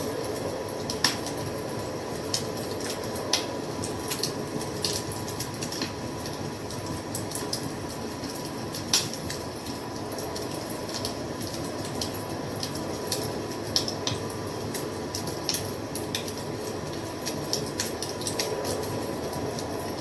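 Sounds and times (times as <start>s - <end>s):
wood fire crackling and popping: 0.2s - 20.0s.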